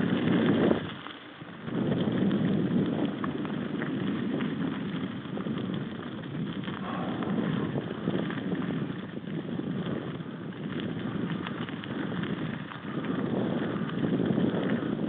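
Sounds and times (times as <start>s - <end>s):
small clicks and rattles: 0.0s - 15.0s
wind buffeting microphone: 0.0s - 15.0s.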